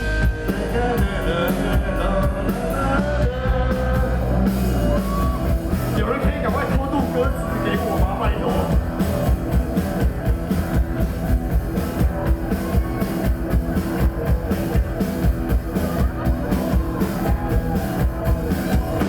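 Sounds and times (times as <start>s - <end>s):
bass: 0.0s - 19.0s
drum kit with steady beat: 0.0s - 19.0s
guitar: 0.0s - 19.0s.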